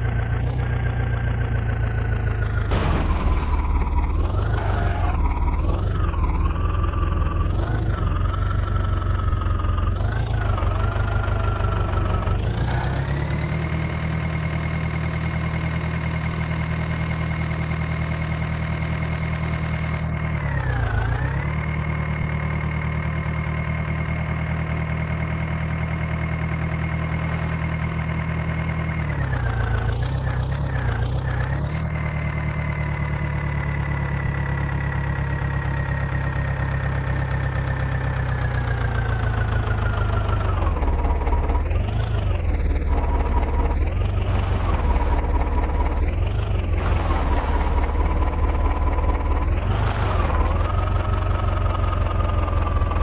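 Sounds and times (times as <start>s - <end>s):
diesel engine revving: 0.0s - 53.0s.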